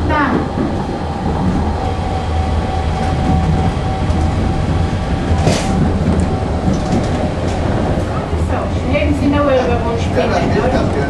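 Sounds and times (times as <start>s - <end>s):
tram low rumble: 0.0s - 11.0s
tram whine: 0.0s - 11.0s.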